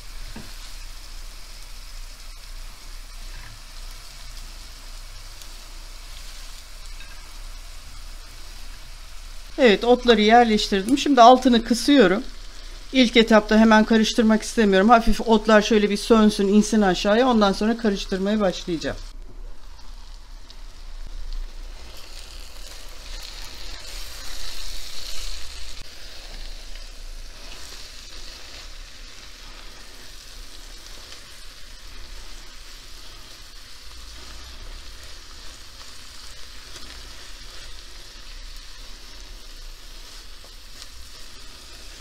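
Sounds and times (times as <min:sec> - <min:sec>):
spatula stirring greens: 0:00.0 - 0:18.4, 0:21.6 - 0:42.0
greens sizzling in a pan: 0:00.0 - 0:42.0.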